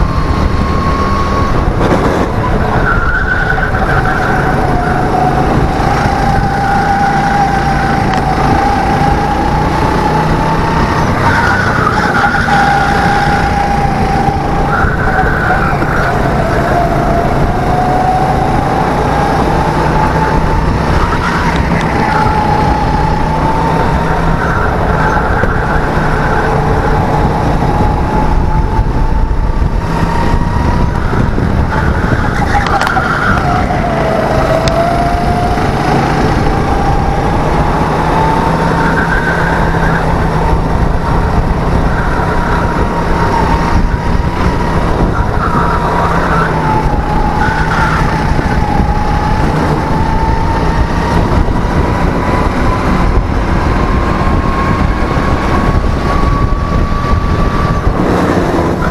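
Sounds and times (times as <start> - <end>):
kart engine running hard: 0.0 - 58.9.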